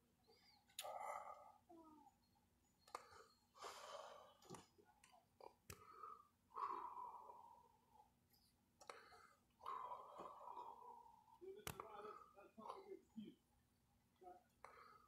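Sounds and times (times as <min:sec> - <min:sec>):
faint breathing and sighing: 0:00.2 - 0:04.8, 0:05.4 - 0:13.4, 0:14.6 - 0:15.0.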